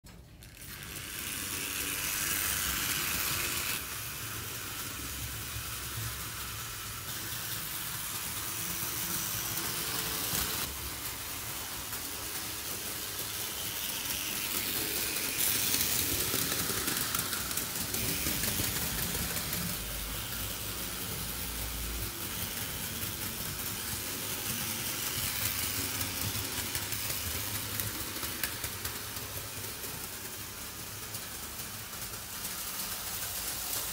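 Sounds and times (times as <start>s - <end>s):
model train wheels rattling: 0.1s - 33.9s.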